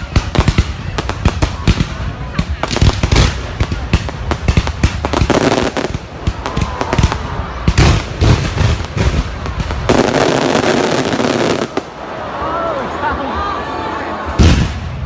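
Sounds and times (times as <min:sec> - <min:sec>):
heavy firework booms: 0:00.0 - 0:11.8, 0:14.3 - 0:15.0
fireworks bangs and crackles: 0:00.0 - 0:12.2, 0:14.2 - 0:15.0.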